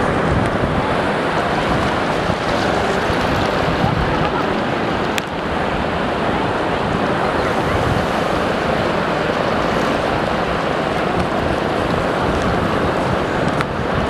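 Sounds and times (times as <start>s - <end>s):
waves rushing onto beach: 0.0s - 14.0s
wind buffeting microphone: 0.0s - 14.0s.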